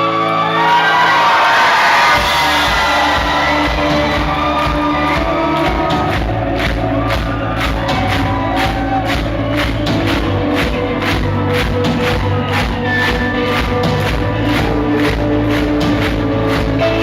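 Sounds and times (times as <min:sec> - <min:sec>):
audience shouting and whooping: 0:00.0 - 0:17.0
rock band playing live: 0:00.0 - 0:17.0
steady drum beat: 0:02.1 - 0:17.0.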